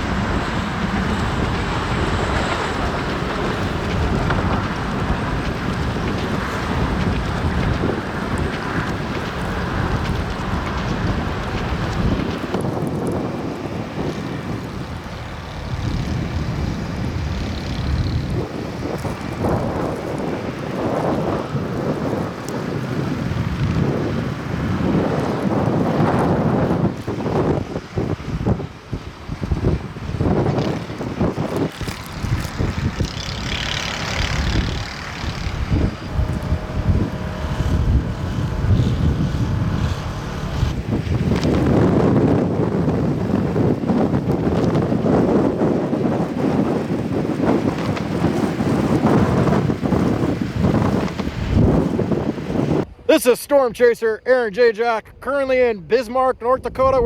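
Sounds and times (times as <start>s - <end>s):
blizzard wind buffeting microphone: 0.0s - 57.0s.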